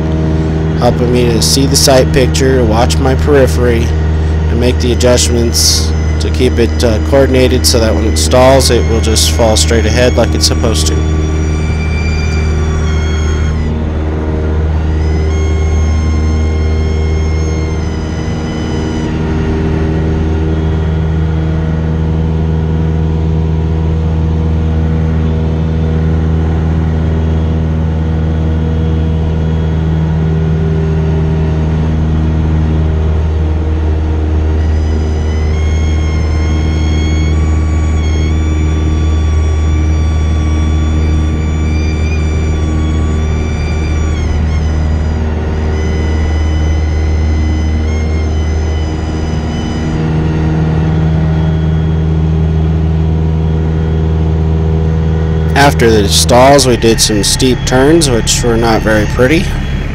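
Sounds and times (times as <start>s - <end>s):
aircraft engine running: 0.0s - 59.9s
stall warning horn tone: 0.0s - 59.9s.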